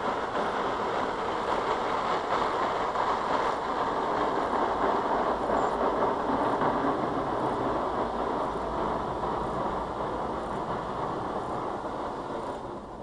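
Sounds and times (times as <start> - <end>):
car wash rushing hiss: 0.0 - 13.0.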